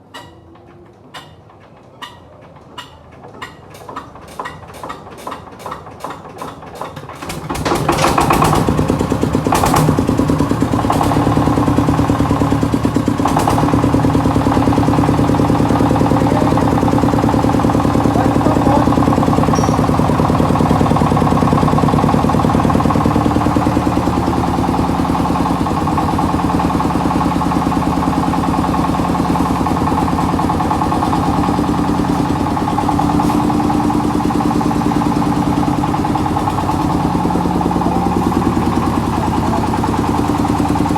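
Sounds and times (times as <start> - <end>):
tractor engine starting: 3.3 - 40.9.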